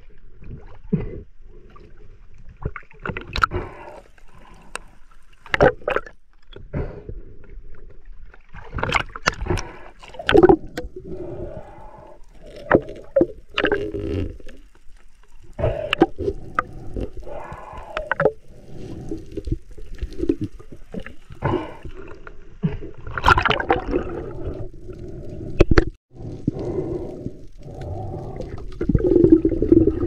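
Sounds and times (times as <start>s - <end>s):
water splashing and gurgling: 0.0s - 30.0s.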